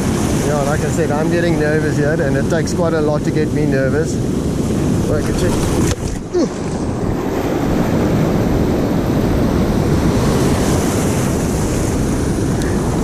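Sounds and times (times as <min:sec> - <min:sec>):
surf breaking on rocks: 0:00.0 - 0:13.0
wind buffeting microphone: 0:00.0 - 0:13.0.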